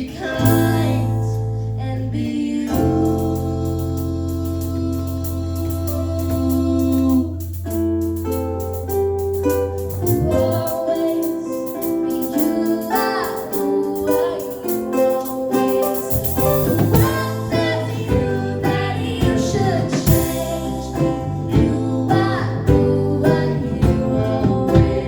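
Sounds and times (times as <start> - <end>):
bluegrass band playing: 0.0 - 25.0
low bass notes: 0.2 - 12.1, 16.0 - 25.0.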